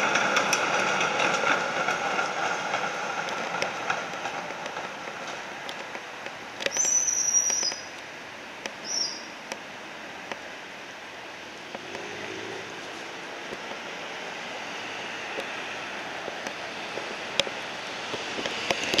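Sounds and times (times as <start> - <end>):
road traffic noise: 0.0 - 19.0
tram moving off: 0.0 - 19.0.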